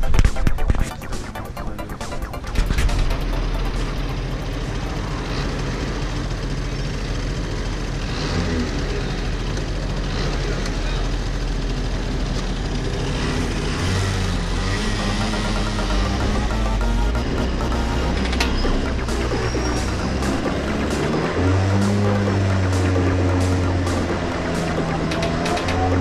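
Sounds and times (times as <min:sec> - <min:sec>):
go-kart engine running: 0:02.5 - 0:26.0.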